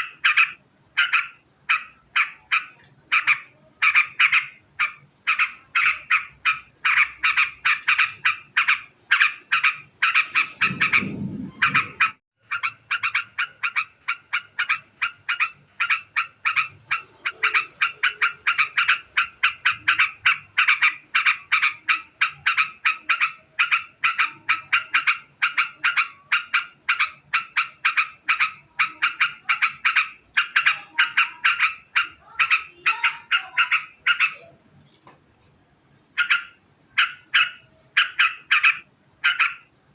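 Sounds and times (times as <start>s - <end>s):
bird fast chattering call: 0.0s - 34.4s, 36.2s - 39.7s.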